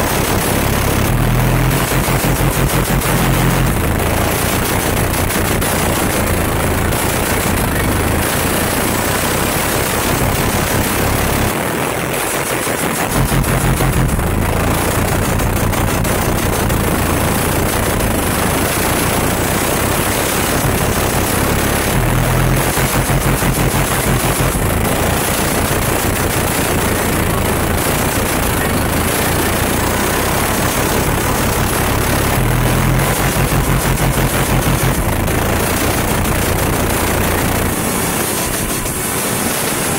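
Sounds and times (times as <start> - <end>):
distorted bass-heavy music: 0.0 - 39.9.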